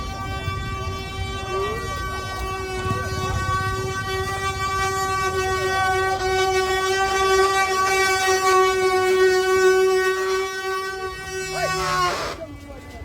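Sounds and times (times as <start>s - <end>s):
wooden cart axle droning: 0.0s - 12.6s.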